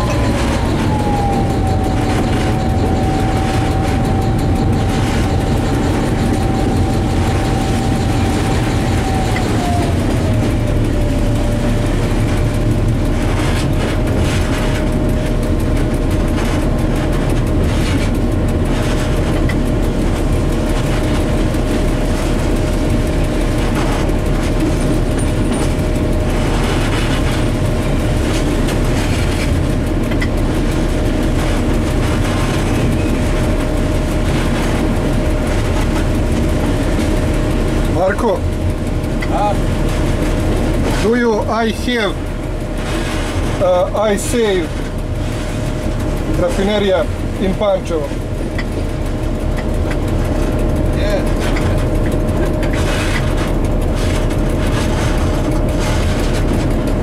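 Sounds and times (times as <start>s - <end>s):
diesel locomotive engine rumble: 0.0s - 57.0s
engine whine: 0.0s - 57.0s
wheels clattering over rails: 0.0s - 57.0s.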